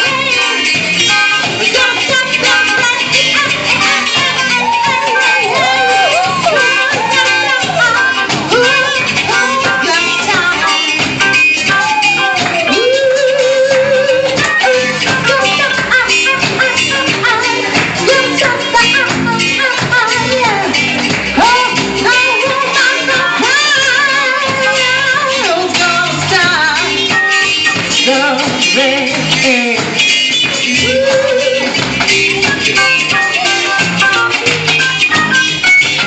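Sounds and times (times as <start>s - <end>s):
person singing: 0.0s - 35.4s
live pop-rock band: 0.0s - 36.0s
shaker-like percussion: 0.1s - 36.0s.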